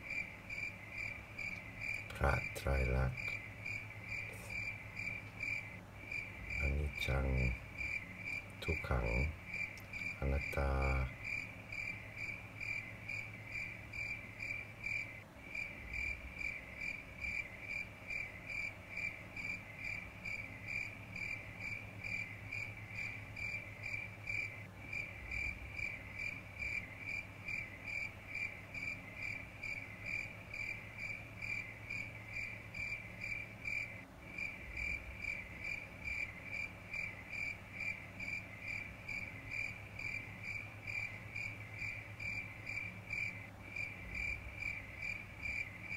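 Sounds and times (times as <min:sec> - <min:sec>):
cricket chirping: 0:00.0 - 0:45.9
low steady hum: 0:00.0 - 0:45.9.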